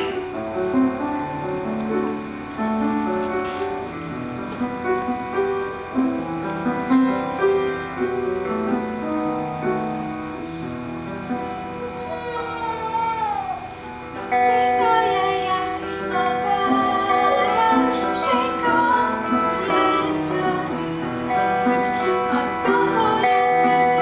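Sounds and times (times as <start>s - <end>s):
guitar accompaniment: 0.0s - 24.0s
piano playing: 0.0s - 24.0s.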